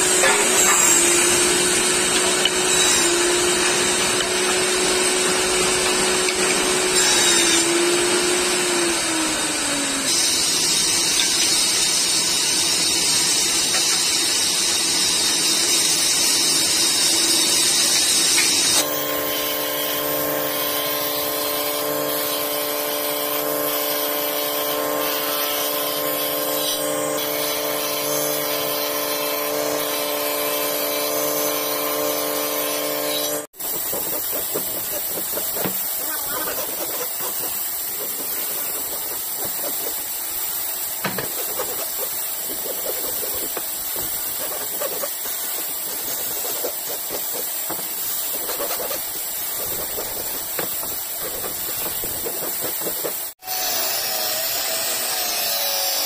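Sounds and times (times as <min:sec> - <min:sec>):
wood jointer motor humming: 0:00.0 - 0:14.8, 0:18.4 - 0:56.0
table saw cutting wood: 0:00.0 - 0:56.0.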